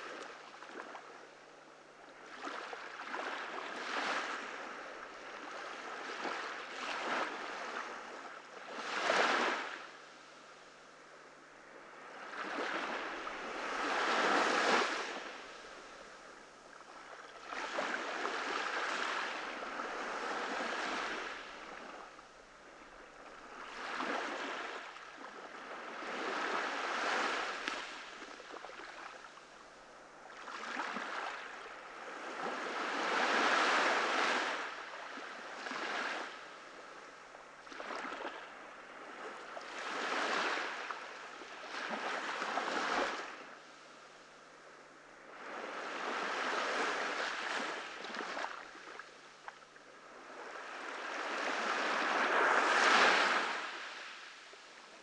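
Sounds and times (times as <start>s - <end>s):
ocean waves breaking on beach: 1.8s - 55.0s.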